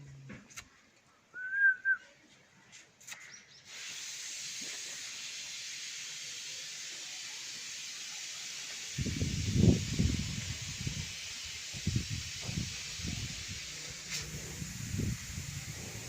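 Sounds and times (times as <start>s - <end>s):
steady hiss: 2.8s - 16.0s.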